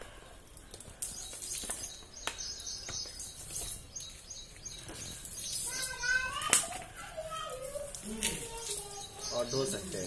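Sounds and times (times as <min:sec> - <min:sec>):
outdoor background noise: 0:00.0 - 0:10.0
small birds chirping: 0:00.1 - 0:10.0.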